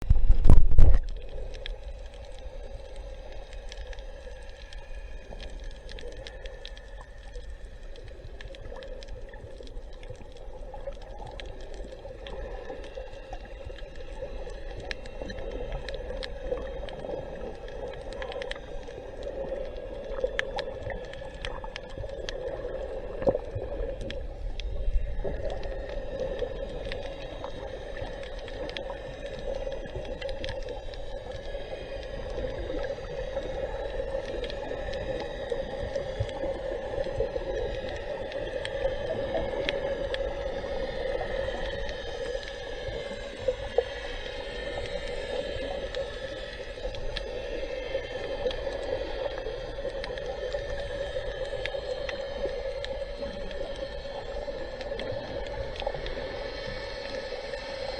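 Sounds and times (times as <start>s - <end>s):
muffled underwater wash: 0.0s - 57.9s
sharp underwater clicks and crackles: 0.0s - 57.9s.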